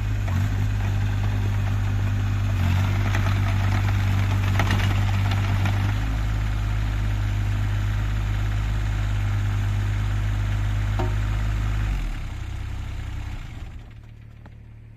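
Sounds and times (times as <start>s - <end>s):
diesel engine idling: 0.0s - 14.9s
engine running down to a stop: 0.0s - 14.9s.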